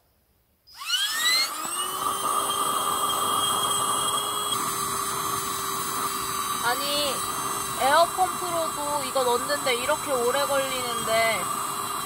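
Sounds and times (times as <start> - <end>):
electric air pump motor whine: 0.7 - 12.0.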